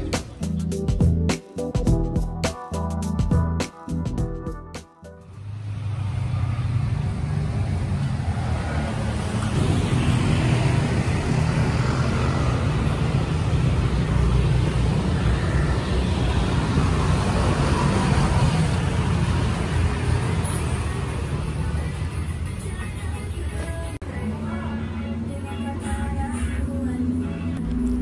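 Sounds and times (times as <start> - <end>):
vehicle engine and road noise: 5.1 - 28.0.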